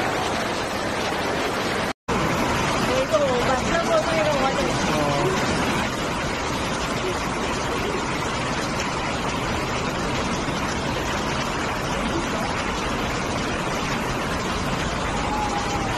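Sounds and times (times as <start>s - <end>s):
floodwater rushing: 0.0s - 15.9s.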